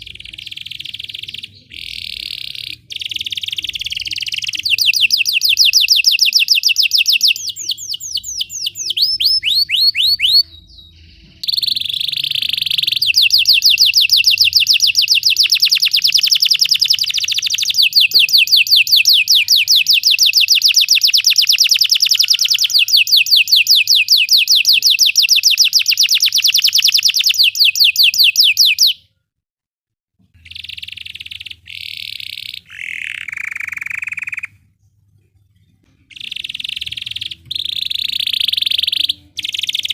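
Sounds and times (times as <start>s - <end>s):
canary singing trills: 0.0s - 29.0s, 30.4s - 35.0s, 35.9s - 39.9s.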